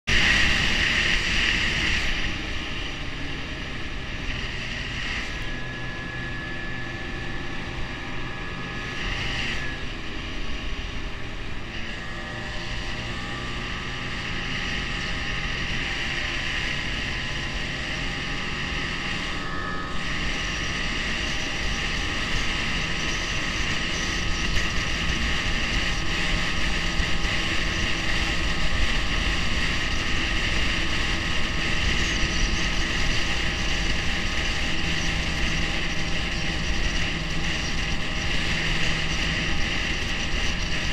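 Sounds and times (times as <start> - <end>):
snowmobile engine running: 0.1 - 40.9.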